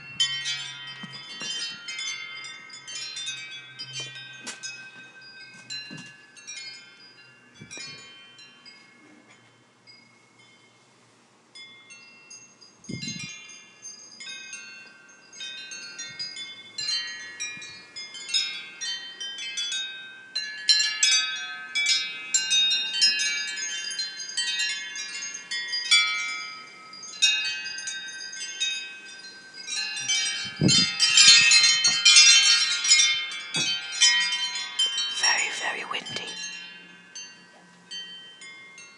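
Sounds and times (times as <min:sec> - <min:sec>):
wind chimes ringing: 0:00.0 - 0:38.9.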